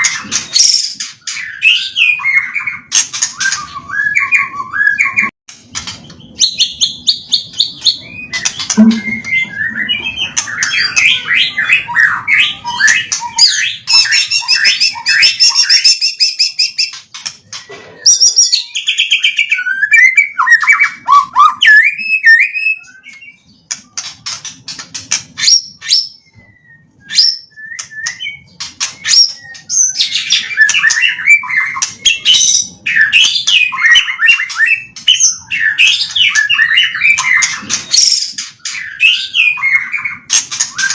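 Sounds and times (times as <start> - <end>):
songbird singing whistles and trills: 0.0 - 5.3, 5.9 - 40.9.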